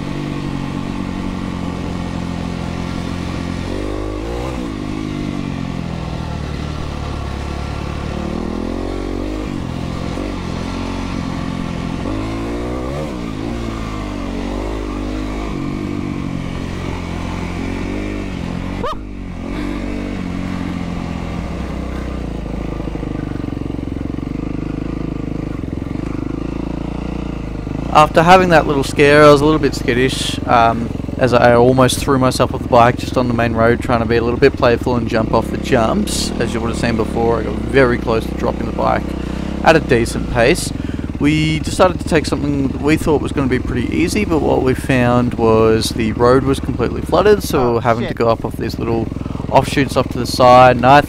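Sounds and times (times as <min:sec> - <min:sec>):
dirt bike engine revving: 0:00.0 - 0:51.0.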